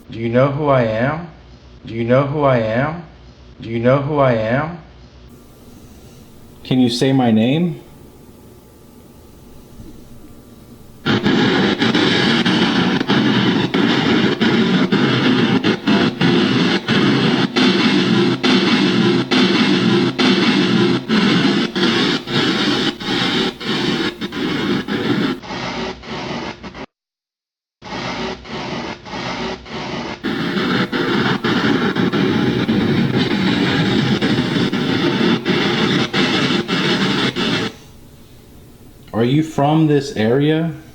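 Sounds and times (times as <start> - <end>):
harsh static white noise: 5.3 - 26.8, 27.9 - 40.9.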